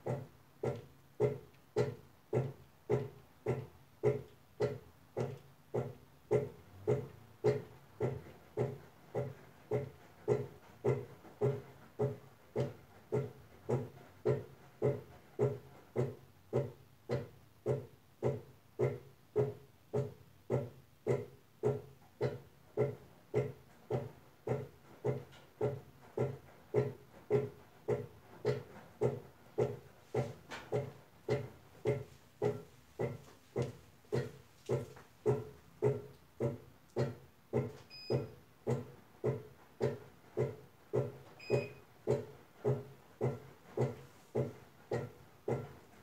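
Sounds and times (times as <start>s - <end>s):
washing machine agitating: 0.0s - 46.0s.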